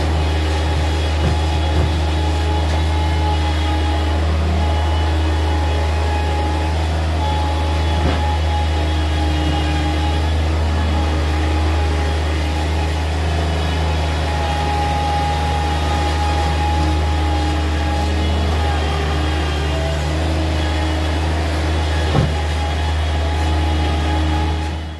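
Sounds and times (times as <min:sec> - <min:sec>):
loader engine humming: 0:00.0 - 0:24.9.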